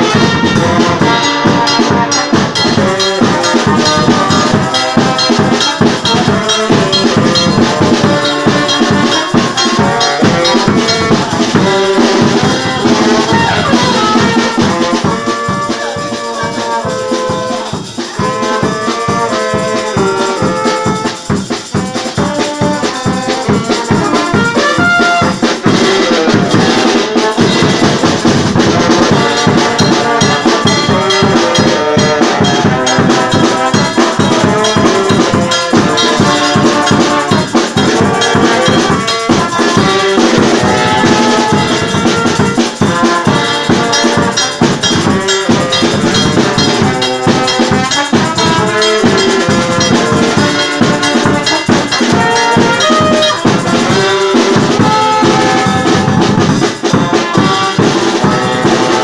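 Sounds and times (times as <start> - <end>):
alto saxophone: 0.0 - 56.4, 57.0 - 59.0
bass drum: 0.0 - 59.0
tambourine: 0.0 - 59.0
trombones: 0.0 - 59.0
trumpet: 0.0 - 59.0.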